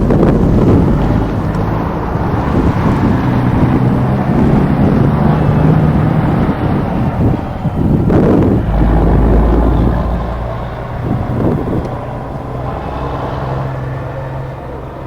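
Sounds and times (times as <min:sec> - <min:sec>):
train passing with loud rumble: 0:00.0 - 0:15.0
wind buffeting microphone: 0:00.0 - 0:15.0.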